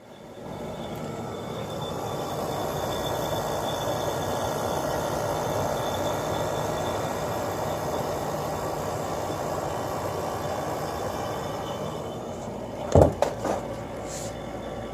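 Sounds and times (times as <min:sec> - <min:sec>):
window air conditioner running: 0:00.0 - 0:14.9.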